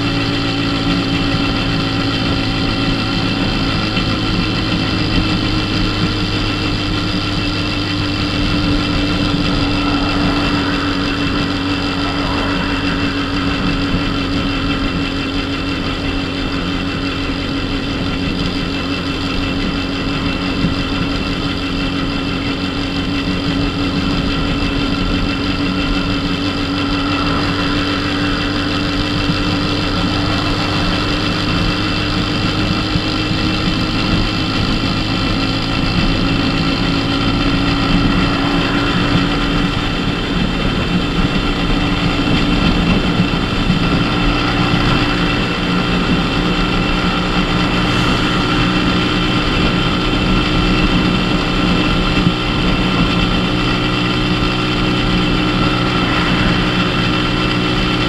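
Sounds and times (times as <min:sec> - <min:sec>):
moped engine running: 0:00.0 - 0:58.0
road and wind noise: 0:00.0 - 0:58.0.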